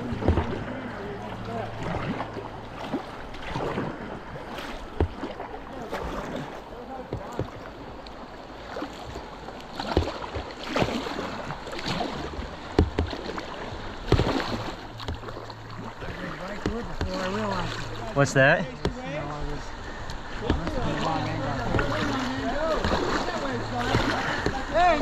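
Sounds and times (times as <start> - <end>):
kayak paddle splashes and knocks: 0.0 - 25.0
rushing river whitewater: 0.0 - 25.0.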